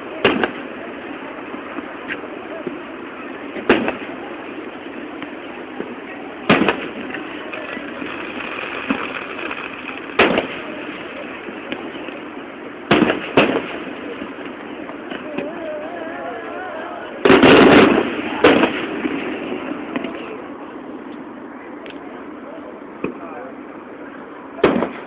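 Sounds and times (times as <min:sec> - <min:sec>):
fireworks bangs: 0:00.0 - 0:20.6, 0:24.6 - 0:25.0
steady background noise: 0:00.0 - 0:25.0.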